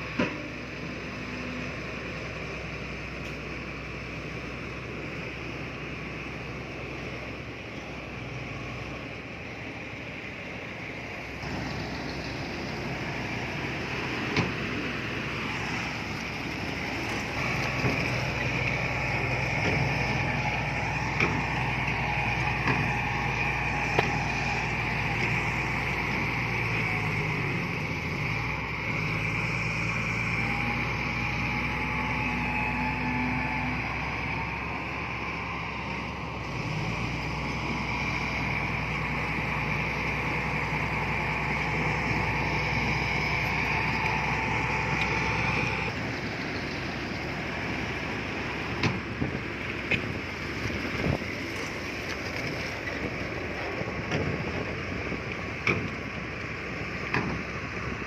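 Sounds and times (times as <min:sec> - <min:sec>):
heavy diesel machine engine running: 0:00.0 - 0:58.0.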